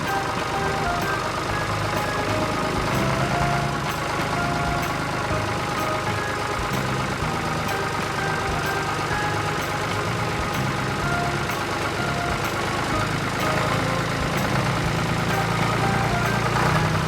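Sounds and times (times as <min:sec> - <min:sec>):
construction vehicle engine running: 0:00.0 - 0:17.0
faint background music: 0:00.0 - 0:17.0.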